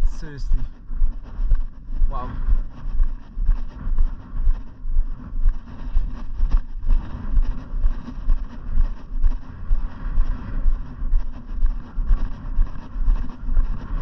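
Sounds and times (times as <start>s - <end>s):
footsteps on asphalt: 0.0s - 14.0s
wind rumbling on microphone: 0.0s - 14.0s.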